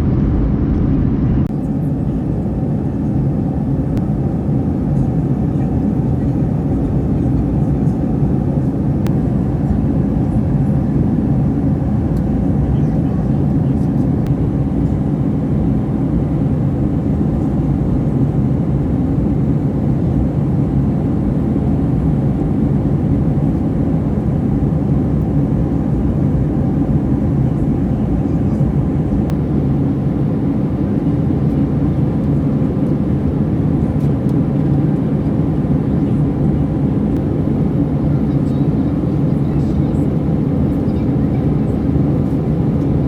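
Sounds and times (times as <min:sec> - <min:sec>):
airliner cabin noise: 0:00.0 - 0:43.0.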